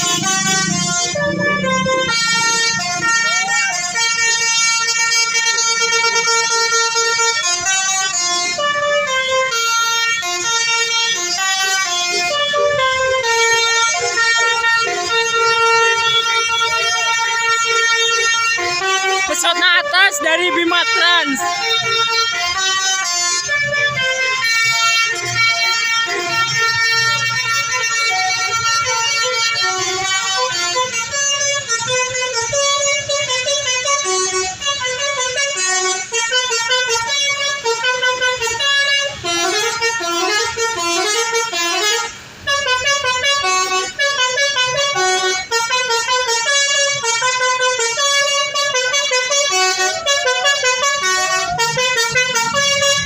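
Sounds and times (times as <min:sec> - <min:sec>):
bus horn melody: 0:00.0 - 0:53.0.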